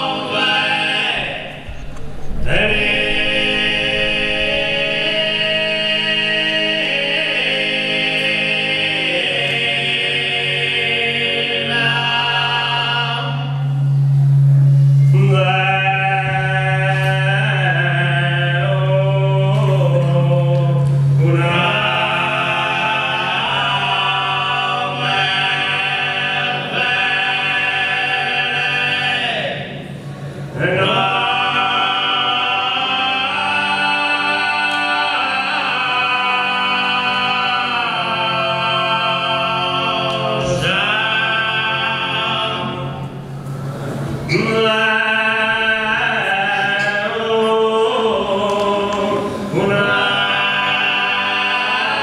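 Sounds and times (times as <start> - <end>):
male voices singing in harmony: 0.0 - 14.2, 15.0 - 43.6, 44.2 - 52.0
low vocal drone: 0.0 - 52.0.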